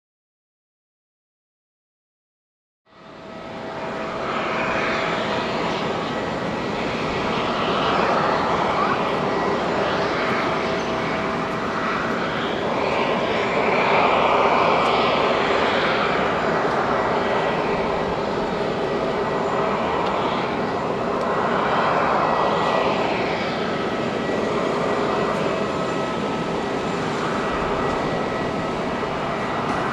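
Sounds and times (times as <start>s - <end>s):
jet engines at low power: 2.9s - 29.9s.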